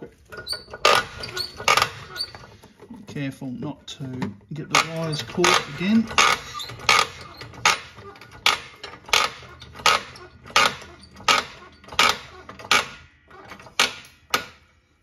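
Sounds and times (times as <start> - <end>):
floor jack handle clacking: 0.3 - 3.2, 4.0 - 14.6.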